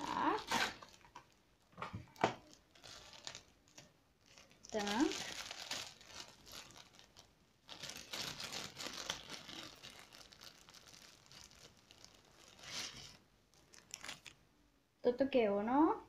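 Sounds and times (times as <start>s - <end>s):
plastic packaging crinkling: 0.0s - 14.4s.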